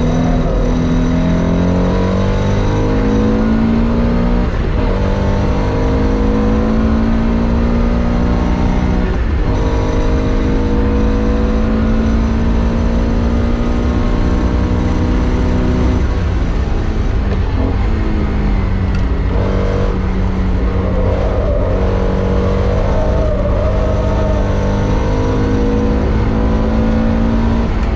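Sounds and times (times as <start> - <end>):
race car engine through gears: 0.0 - 27.9
road and drivetrain rumble: 0.0 - 27.9.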